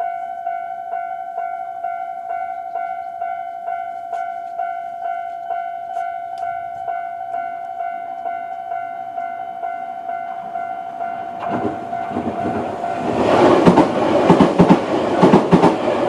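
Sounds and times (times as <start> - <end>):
level crossing alarm bell: 0.0 - 14.2.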